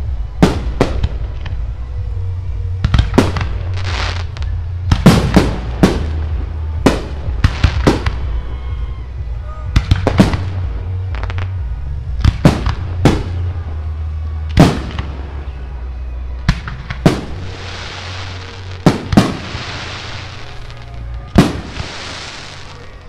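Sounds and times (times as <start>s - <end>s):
crackling hiss: 0.0s - 23.0s.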